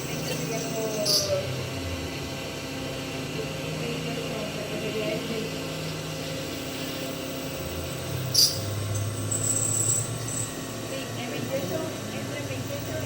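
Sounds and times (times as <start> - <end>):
milling machine hum: 0.0 - 13.0
thin high whine: 0.0 - 13.0.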